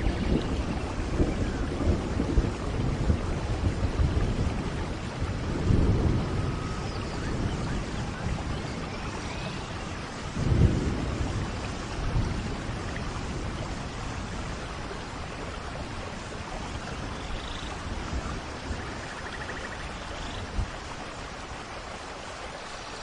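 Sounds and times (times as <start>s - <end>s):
thunder rumble: 0.0s - 21.1s
steady rain falling: 0.0s - 23.0s.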